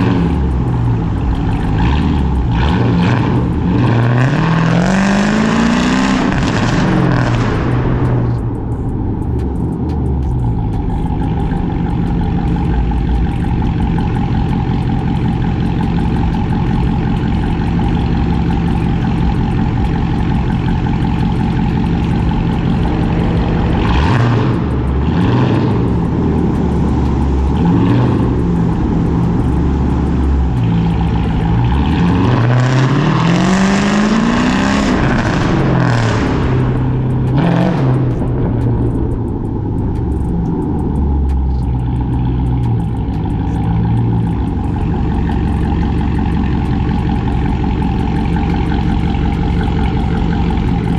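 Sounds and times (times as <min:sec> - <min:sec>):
car engine exhaust revving: 0:00.0 - 0:50.9.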